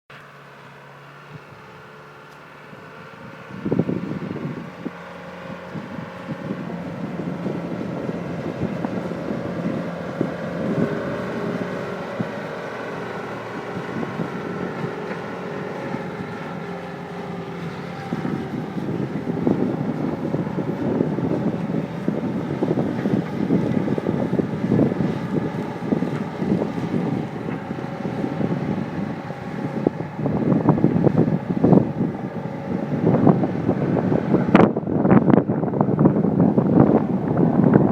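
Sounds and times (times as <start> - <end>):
diesel engine running: 0.1 - 37.9
wind buffeting microphone: 1.1 - 37.9.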